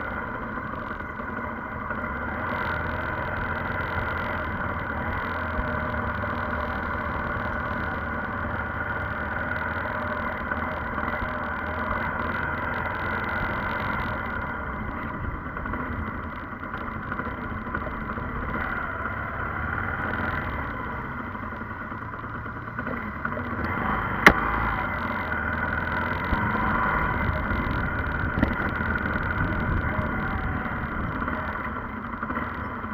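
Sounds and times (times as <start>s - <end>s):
road noise: 0.0s - 32.9s
vehicle engine running: 0.0s - 32.9s.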